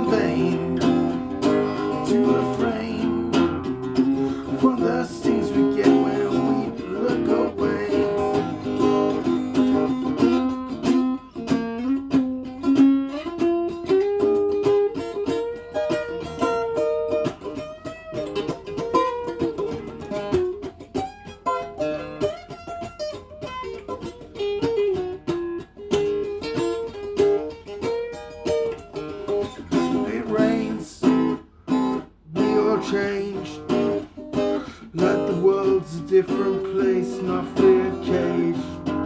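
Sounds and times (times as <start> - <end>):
guitar plucked melody: 0.0 - 39.0.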